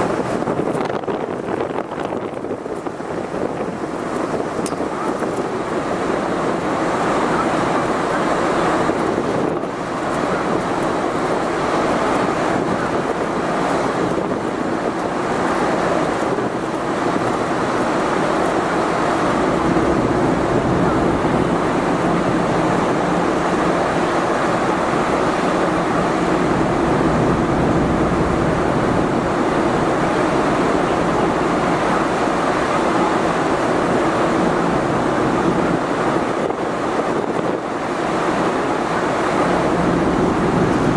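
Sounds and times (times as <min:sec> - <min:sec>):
low ship hum: 0:00.0 - 0:40.9
water rushing along hull: 0:00.0 - 0:40.9
wind buffeting microphone: 0:00.0 - 0:40.9.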